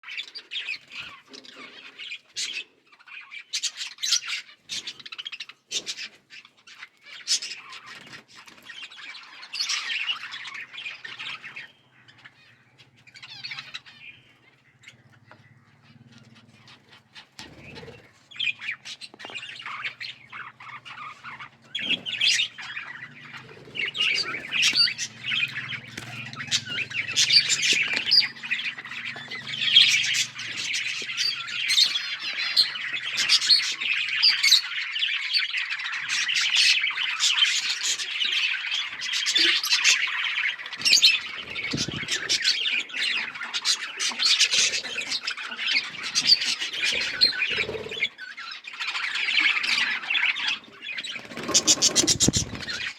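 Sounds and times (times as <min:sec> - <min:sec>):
budgerigars chirping and squawking: 0:00.0 - 0:52.9.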